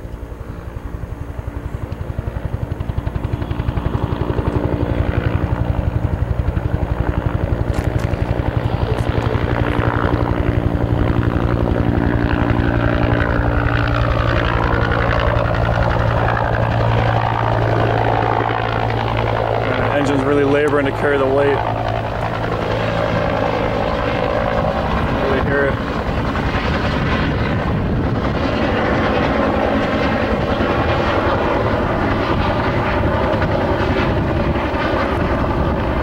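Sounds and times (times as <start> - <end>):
helicopter rotor beating: 0.0 - 36.0.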